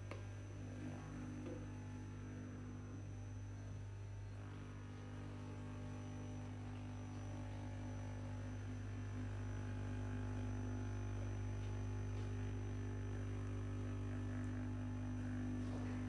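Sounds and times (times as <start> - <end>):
high steady whine: 0.0 - 16.0
low electric hum: 0.0 - 16.0.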